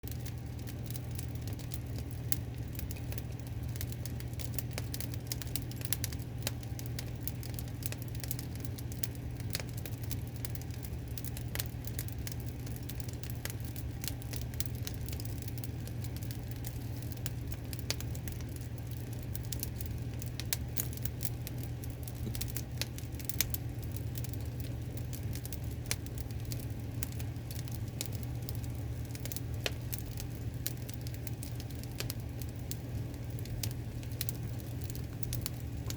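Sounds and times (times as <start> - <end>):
low fire rumble: 0.0 - 35.9
wood fire crackling and popping: 0.0 - 35.9.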